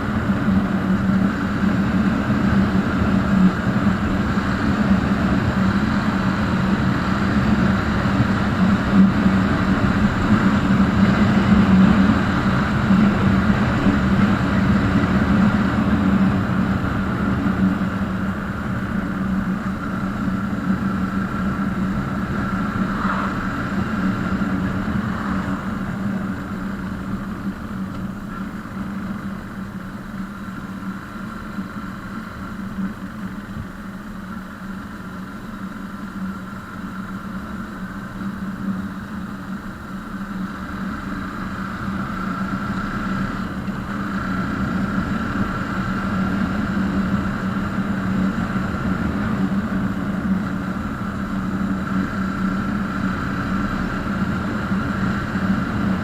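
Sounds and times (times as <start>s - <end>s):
motorcycle engine running: 0.0s - 56.0s
road and wind noise: 0.0s - 56.0s.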